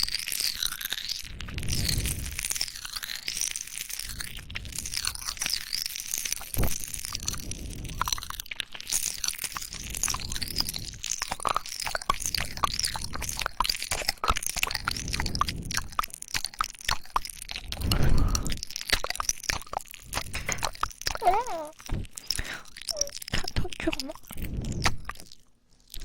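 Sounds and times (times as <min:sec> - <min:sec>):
popping candy crackling: 0:00.0 - 0:26.0
wet mouth chewing sounds: 0:00.0 - 0:26.0.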